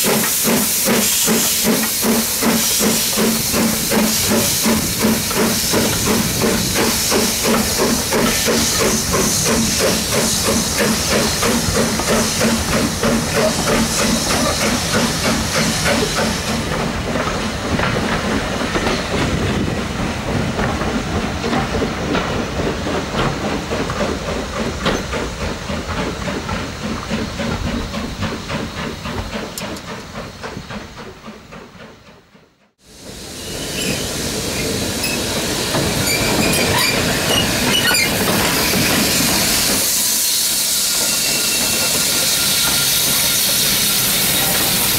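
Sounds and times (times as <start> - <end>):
steam hissing: 0.0 - 32.2, 32.8 - 44.9
rhythmic clatter of train wheels: 0.0 - 44.9
steam locomotive passing: 0.0 - 44.9.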